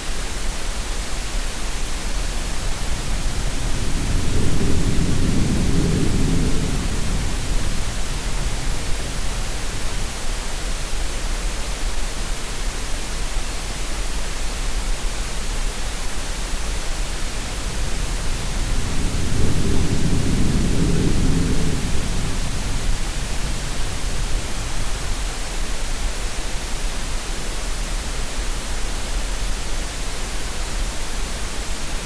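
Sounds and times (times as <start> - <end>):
steady noise hiss: 0.0 - 32.0.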